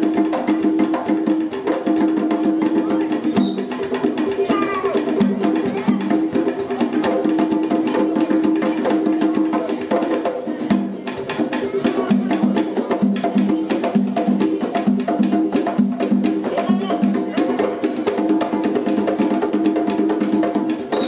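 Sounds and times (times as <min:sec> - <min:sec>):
hand drums playing fast rhythm: 0:00.0 - 0:21.0.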